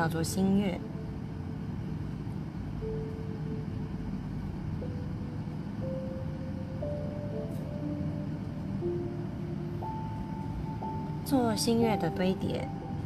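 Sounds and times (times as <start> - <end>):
soft slow music: 0.0 - 13.0
steady low hum: 0.0 - 13.0.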